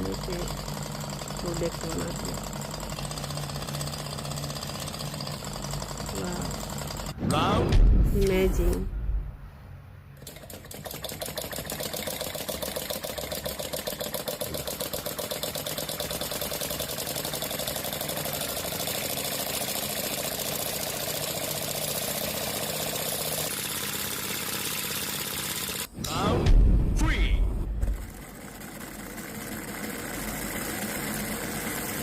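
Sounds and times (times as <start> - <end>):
small engine mechanical ticking: 0.0 - 7.2, 10.2 - 25.9, 27.8 - 32.0.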